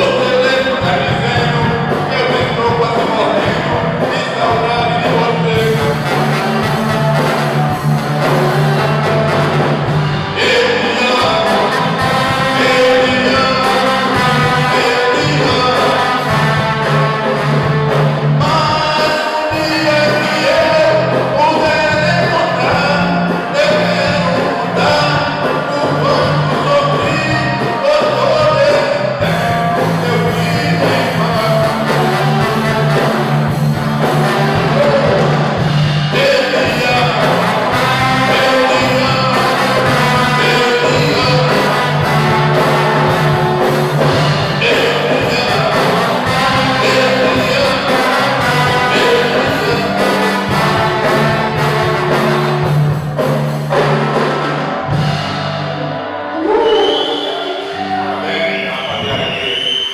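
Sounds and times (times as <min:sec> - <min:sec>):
person singing: 0:00.0 - 0:52.8, 0:55.8 - 0:59.4
drum strokes: 0:00.0 - 0:57.6
live rock band playing: 0:00.0 - 0:59.9.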